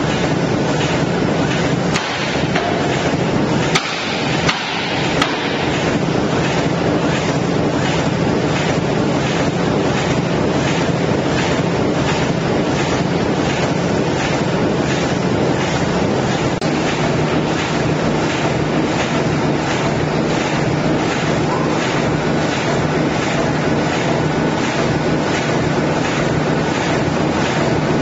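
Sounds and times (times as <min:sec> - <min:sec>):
production machinery running: 0:00.0 - 0:28.0.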